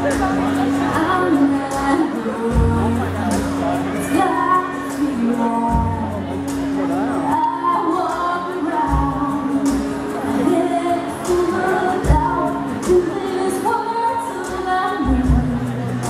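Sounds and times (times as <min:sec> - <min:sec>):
woman singing into a microphone: 0:00.0 - 0:16.0.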